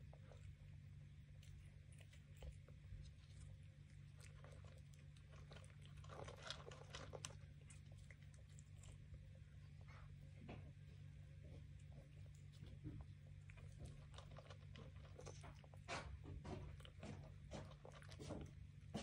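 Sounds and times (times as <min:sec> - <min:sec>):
cat chewing food: 0:00.0 - 0:19.0
low steady hum: 0:00.0 - 0:19.0.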